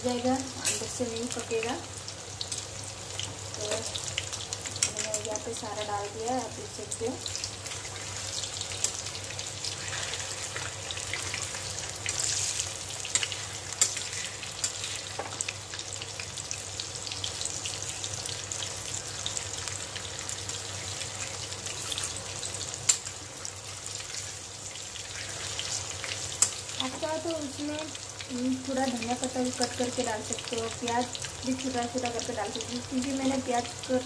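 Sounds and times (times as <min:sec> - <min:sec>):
chicken frying in oil: 0:00.0 - 0:34.0.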